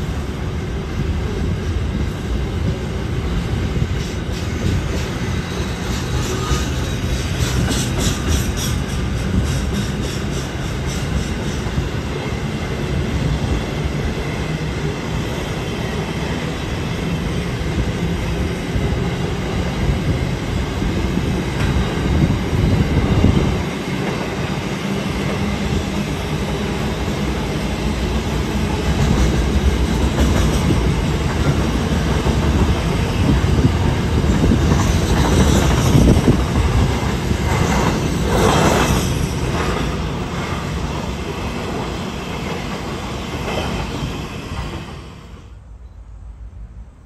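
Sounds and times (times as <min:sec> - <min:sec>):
train wagons rumbling and clattering: 0:00.0 - 0:47.0.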